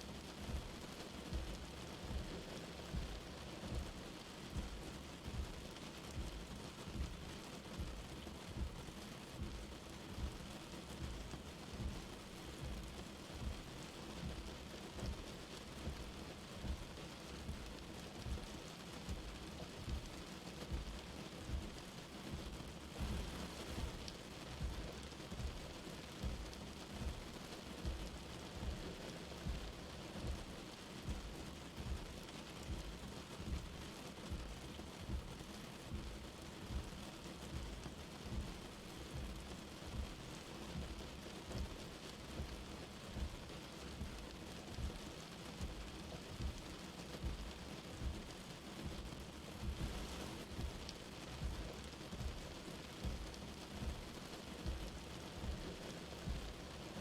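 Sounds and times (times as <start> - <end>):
light rain pattering: 0.0 - 57.0
soft low thumps: 0.4 - 57.0.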